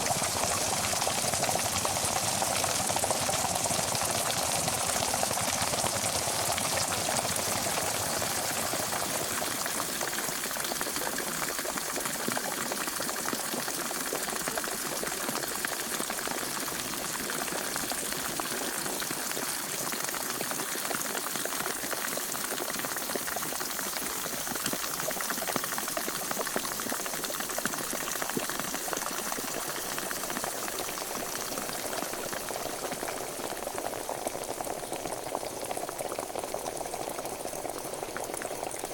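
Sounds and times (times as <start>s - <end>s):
water boiling in a pot: 0.0s - 38.9s.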